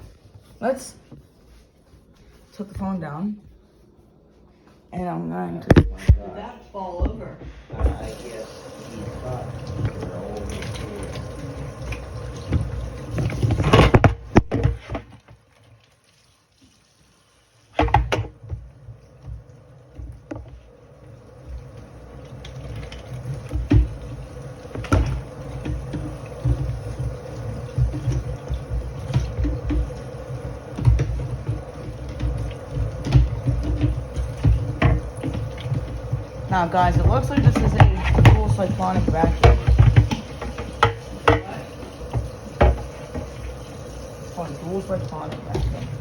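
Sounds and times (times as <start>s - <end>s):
tap water splashing in sink: 7.8s - 46.0s.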